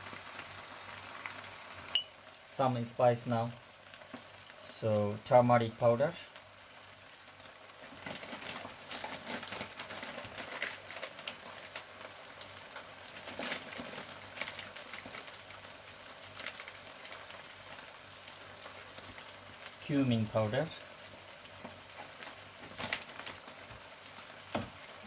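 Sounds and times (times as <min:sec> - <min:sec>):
small crackles and pops: 0:00.0 - 0:02.5, 0:03.4 - 0:04.7, 0:06.2 - 0:25.0
food sizzling in oil: 0:00.0 - 0:25.0.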